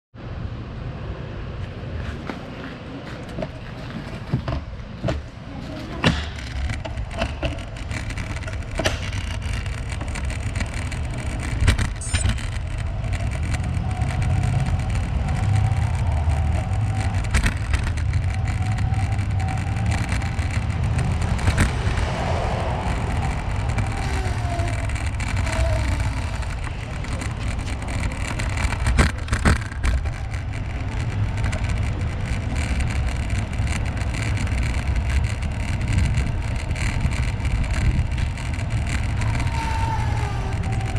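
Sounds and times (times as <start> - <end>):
tyre noise on path: 1.4 - 40.9
sharp clicks and knocks: 3.2 - 40.9
wind buffeting microphone: 6.0 - 40.9.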